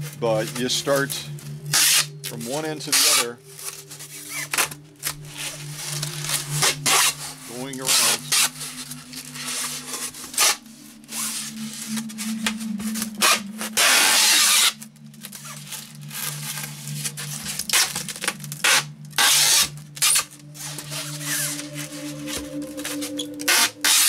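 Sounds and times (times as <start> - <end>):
tape rubbing against foam: 1.7 - 2.1, 2.9 - 22.4.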